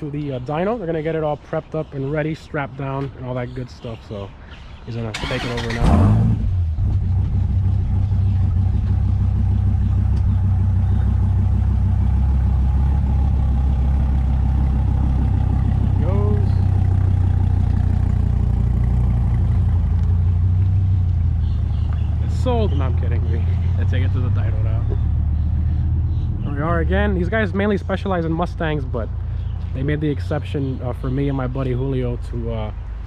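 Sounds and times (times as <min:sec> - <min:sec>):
car engine idling: 0:05.2 - 0:32.7.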